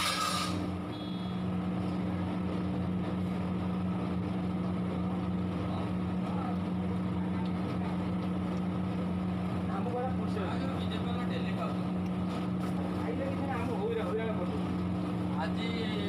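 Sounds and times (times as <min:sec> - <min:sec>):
kitchen machinery humming: 0:00.0 - 0:16.0.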